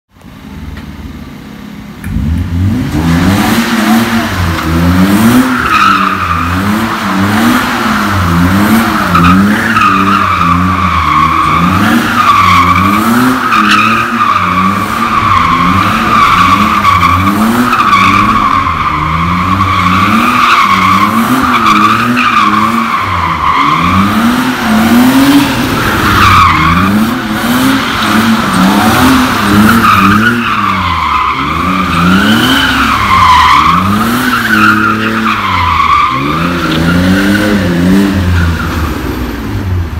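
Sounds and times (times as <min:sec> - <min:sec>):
car engine revving: 0:00.9 - 0:39.9.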